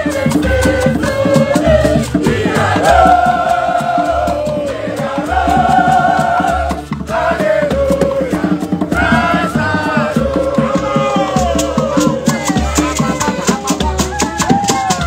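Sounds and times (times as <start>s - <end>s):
pulsing bass: 0.0s - 15.0s
steady percussion beat: 0.0s - 15.0s
voices singing long held notes: 0.0s - 15.0s.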